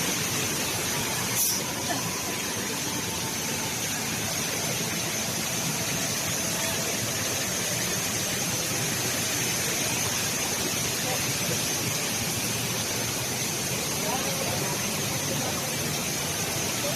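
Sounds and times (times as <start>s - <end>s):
indoor waterfall rushing: 0.0s - 16.9s.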